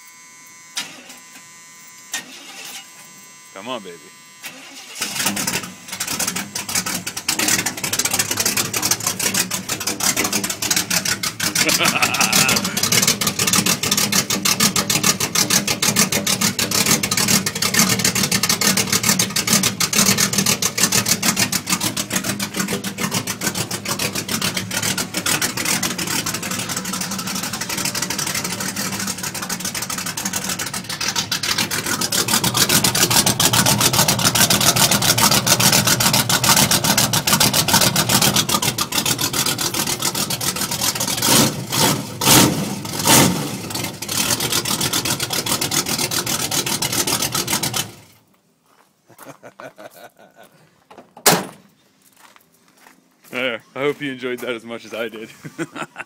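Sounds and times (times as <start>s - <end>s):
pickup truck engine open exhaust: 2.0s - 48.2s, 50.4s - 51.8s.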